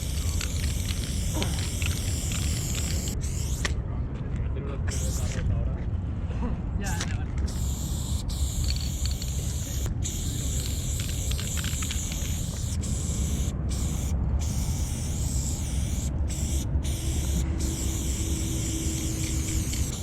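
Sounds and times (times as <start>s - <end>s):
spray paint can hissing: 0.0s - 3.8s, 4.9s - 5.4s, 6.9s - 20.0s.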